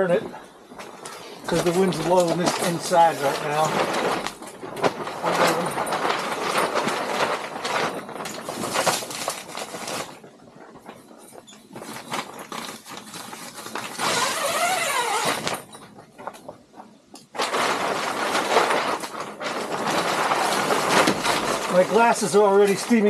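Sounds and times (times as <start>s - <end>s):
fabric rustling and crinkling: 0.0s - 23.0s.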